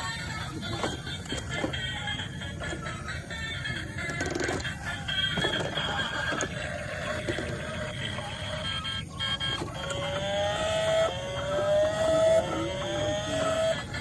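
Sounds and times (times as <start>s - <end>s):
toy car engine revving: 0.0s - 14.0s.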